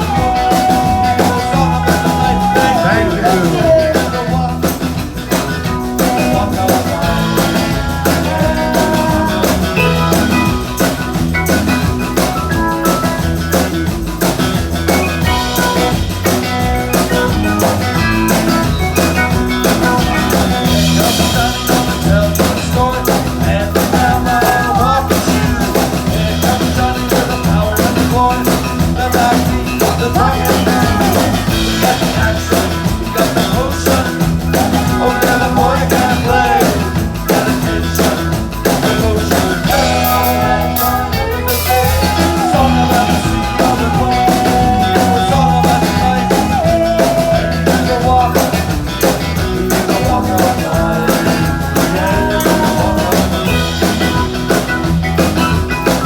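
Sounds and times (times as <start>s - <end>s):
drum kit beat: 0.0s - 56.0s
live rock and roll band: 0.0s - 56.0s.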